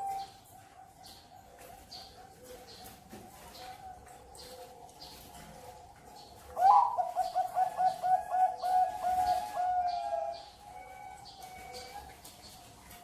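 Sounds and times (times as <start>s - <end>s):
dove cooing: 0.0s - 13.0s
faint cooing of other doves: 0.0s - 13.0s.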